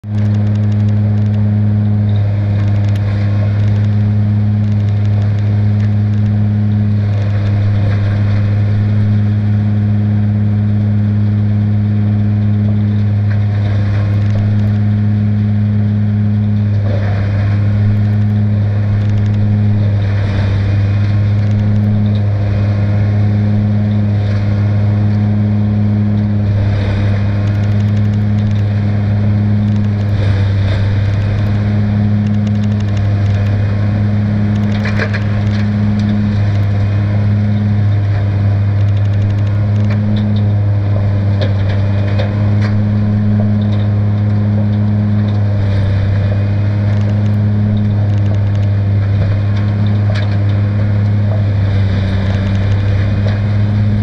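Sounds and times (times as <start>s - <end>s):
tractor straw blower humming: 0.0s - 54.0s.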